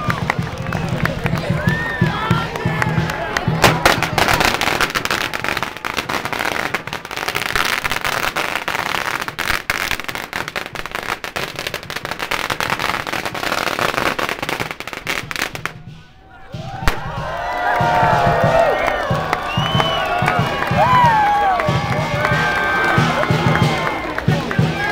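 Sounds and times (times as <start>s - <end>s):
firecrackers crackling: 0.0s - 24.9s.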